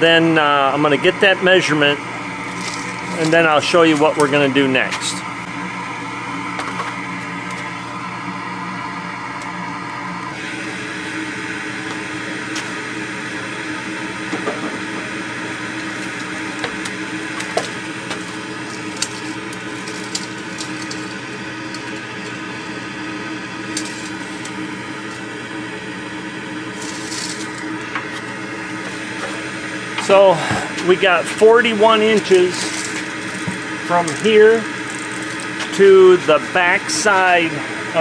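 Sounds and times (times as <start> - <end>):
exhaust blower droning: 0.0 - 38.0.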